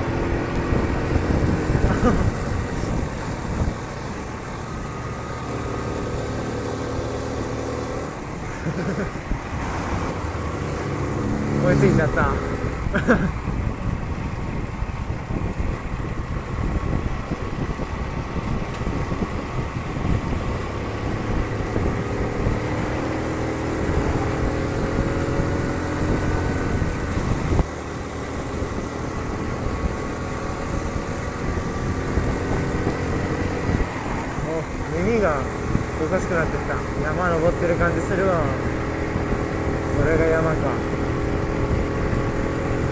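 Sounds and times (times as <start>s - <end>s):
wind rumble on microphone: 0.0s - 5.0s, 6.3s - 42.9s
small motorcycle engine running: 0.0s - 42.9s.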